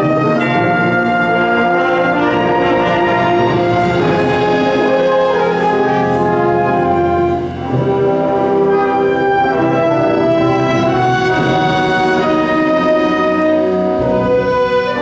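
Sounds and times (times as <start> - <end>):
brass ensemble sustained chords: 0.0 - 15.0.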